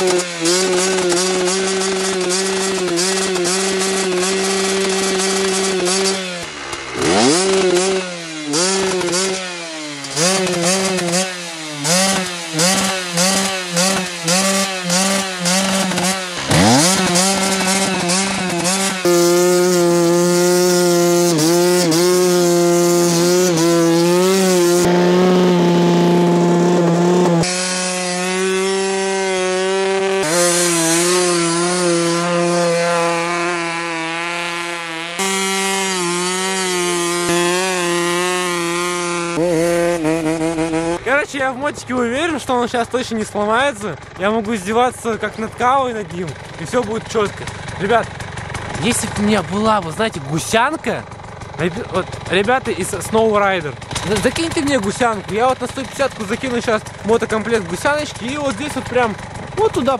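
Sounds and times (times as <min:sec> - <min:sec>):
two-stroke engine revving hard: 0:00.0 - 0:59.9.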